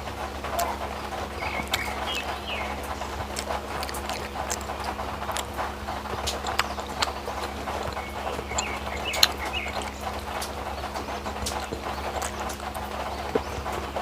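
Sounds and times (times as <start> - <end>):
steady low hum: 0.0 - 14.0
wet lip-smacking clicks: 0.2 - 14.0
person chewing: 0.4 - 14.0.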